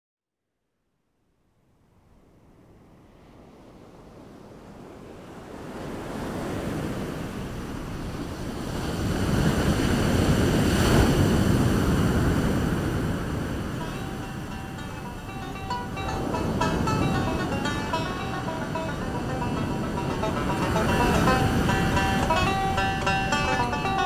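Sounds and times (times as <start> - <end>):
sea waves washing: 2.7 - 24.0.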